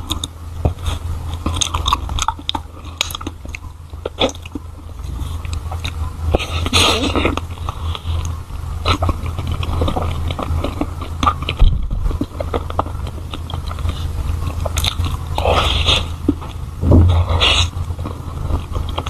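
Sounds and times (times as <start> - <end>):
biting and chewing pastry: 0.0 - 19.0.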